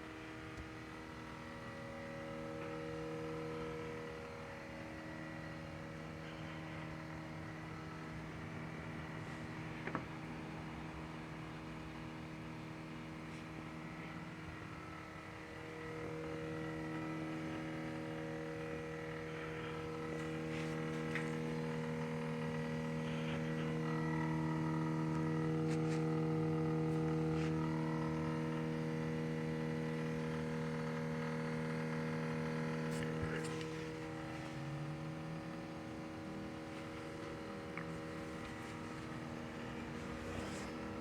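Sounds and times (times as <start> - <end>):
steady electrical hum: 0.0 - 41.0.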